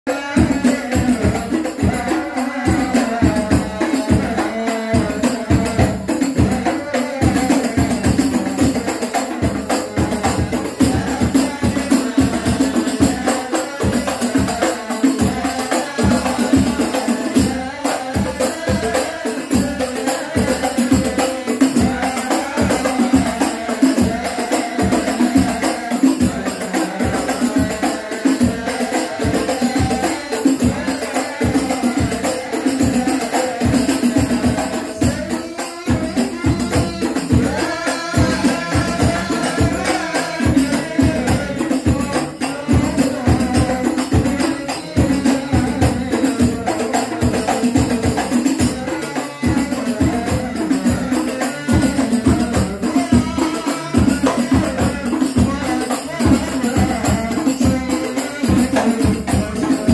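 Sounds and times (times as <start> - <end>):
man singing over a microphone: 0.0 - 59.9
frame drums beating: 0.1 - 59.9.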